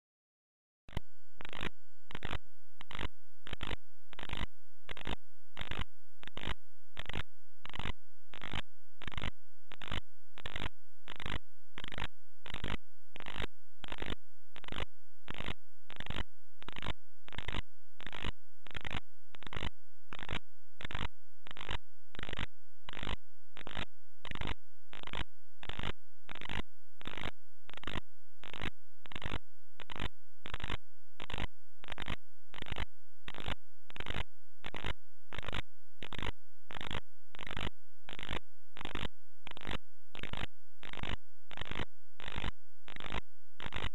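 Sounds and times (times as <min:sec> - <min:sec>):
faint steady high tone: 0:00.9 - 0:43.9.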